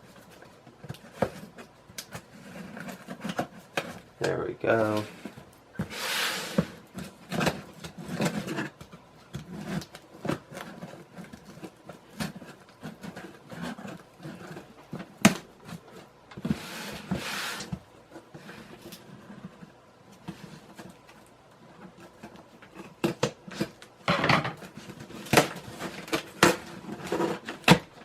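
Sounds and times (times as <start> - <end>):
cardboard box rustling and scraping: 0.0 - 23.8, 24.6 - 28.0.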